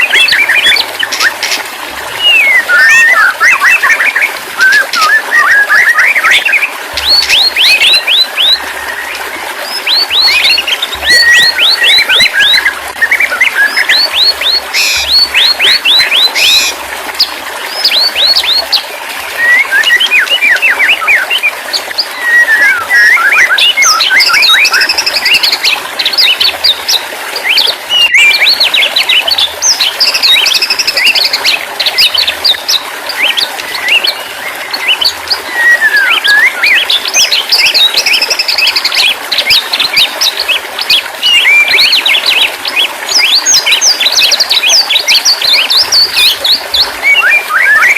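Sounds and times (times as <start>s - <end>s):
bird singing whistles and chirps: 2.2s - 16.8s, 19.4s - 26.4s, 27.4s - 32.6s, 33.2s - 47.9s.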